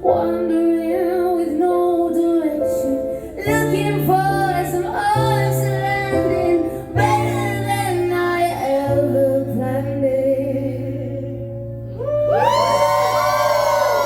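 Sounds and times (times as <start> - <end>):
sustained piano chords: 0.0 - 14.0
woman singing a slow ballad: 0.0 - 14.0.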